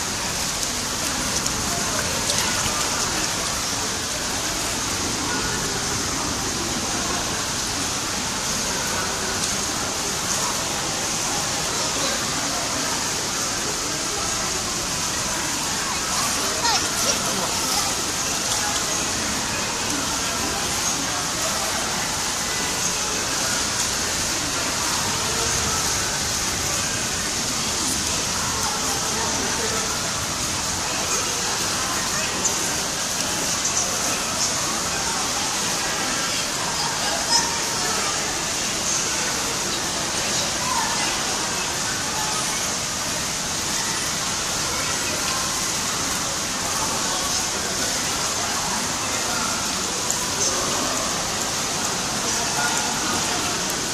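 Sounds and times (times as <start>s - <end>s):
heavy rain hiss: 0.0s - 53.9s
running water: 0.0s - 53.9s.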